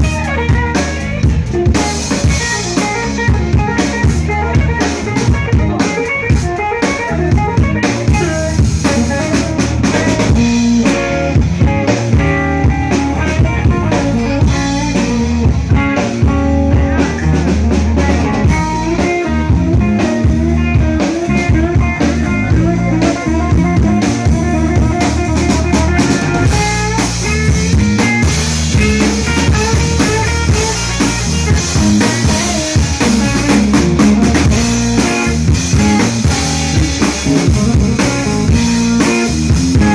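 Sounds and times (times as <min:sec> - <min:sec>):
drum kit groove: 0:00.0 - 0:39.9
electric guitar lines: 0:00.0 - 0:39.9.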